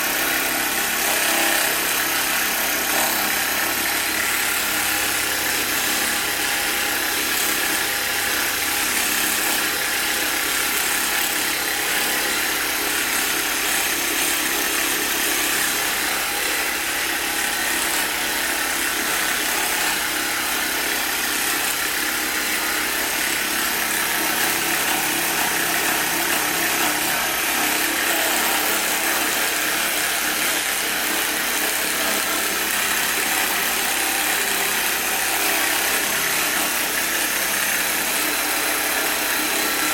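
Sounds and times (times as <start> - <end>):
small electric motor running: 0.0 - 39.9.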